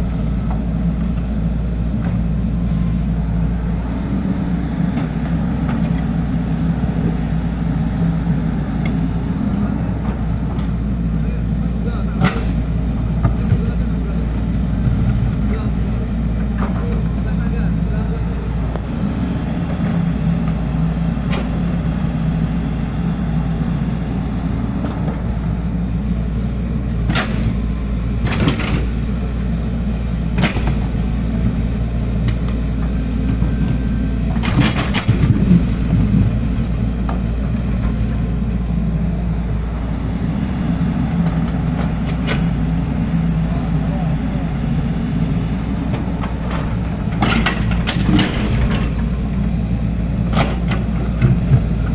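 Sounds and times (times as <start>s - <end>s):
excavator engine running: 0.0s - 51.9s.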